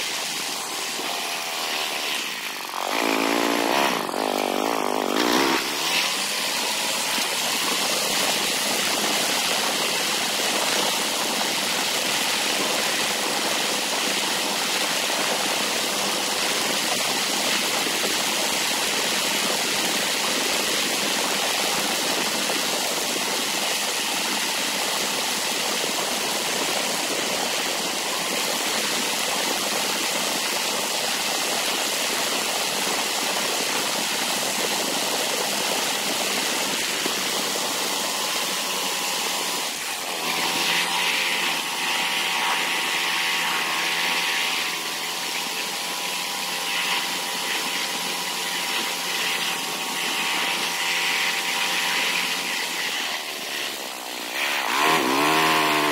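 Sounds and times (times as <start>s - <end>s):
motorized bicycle engine: 0.0s - 55.9s.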